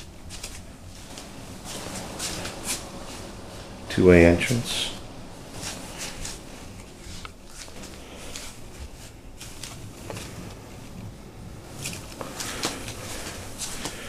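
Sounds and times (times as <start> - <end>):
person walking: 0.0 - 14.0.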